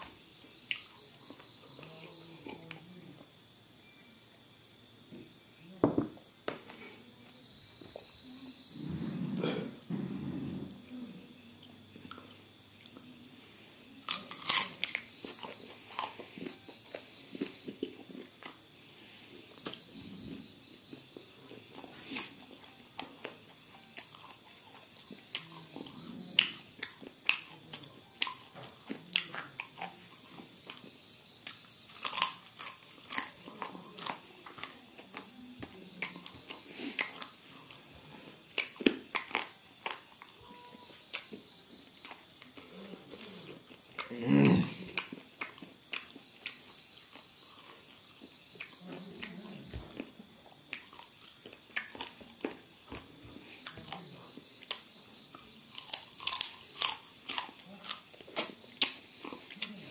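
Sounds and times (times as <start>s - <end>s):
crunchy chewing: 0.0s - 4.0s, 6.2s - 59.9s.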